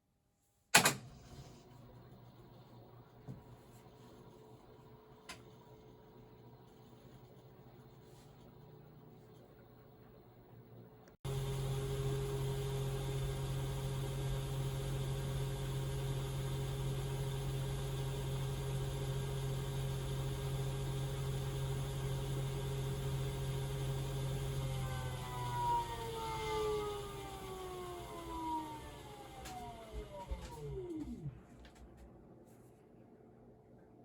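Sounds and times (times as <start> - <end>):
washing machine motor hum: 0.8 - 32.6.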